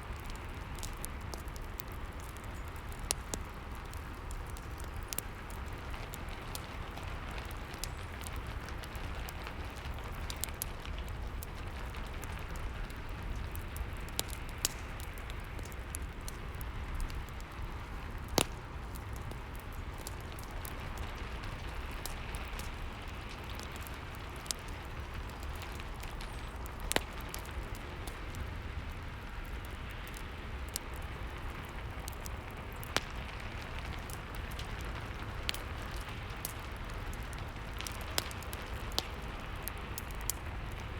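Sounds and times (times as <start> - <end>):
fire crackling and popping: 0.0 - 40.9
steady rain: 0.0 - 40.9.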